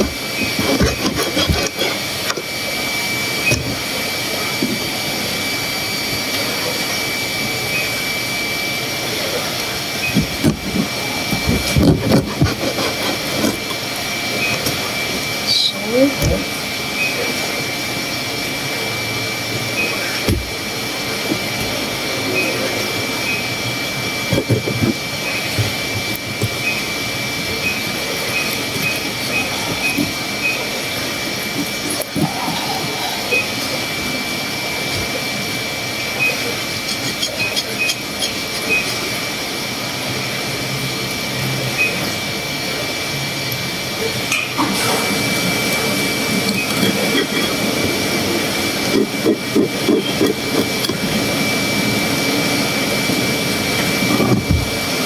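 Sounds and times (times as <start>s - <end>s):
machine whirring drone: 0.0s - 55.0s.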